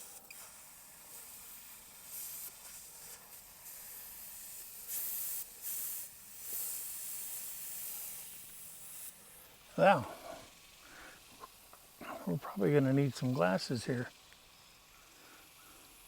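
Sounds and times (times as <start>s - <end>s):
air hissing out of tire: 0.0s - 16.0s.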